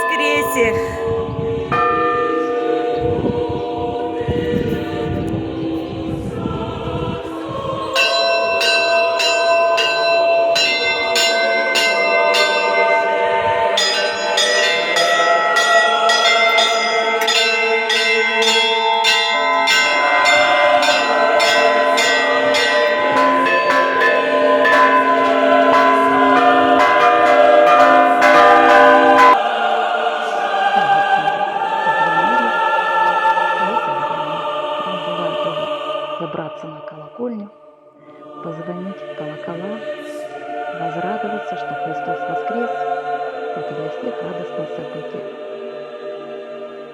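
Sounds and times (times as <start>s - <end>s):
church bells ringing: 0.0s - 6.0s, 6.6s - 37.3s, 38.1s - 46.9s.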